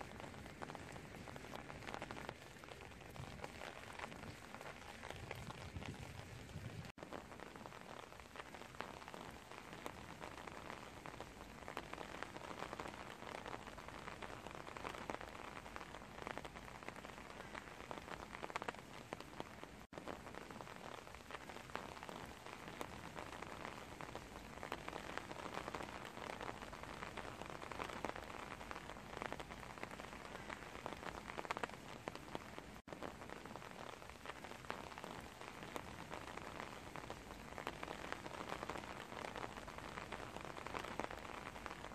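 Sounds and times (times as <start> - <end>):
rain on a wooden deck: 0.0 - 41.9.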